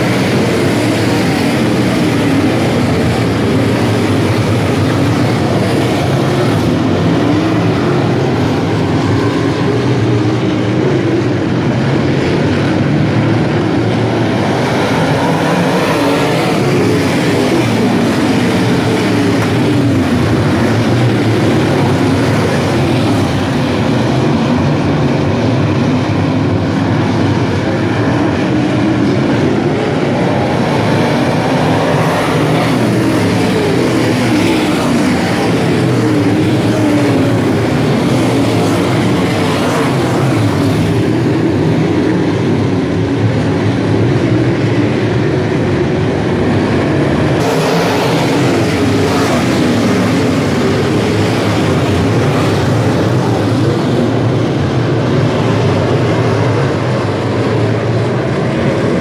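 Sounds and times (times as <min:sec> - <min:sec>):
race car engines roaring: 0:00.0 - 0:59.0.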